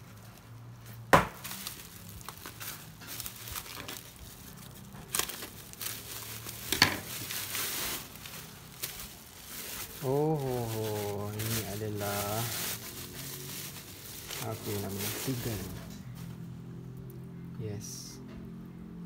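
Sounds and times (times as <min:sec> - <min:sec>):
bubble wrap crinkling: 0:00.0 - 0:16.7.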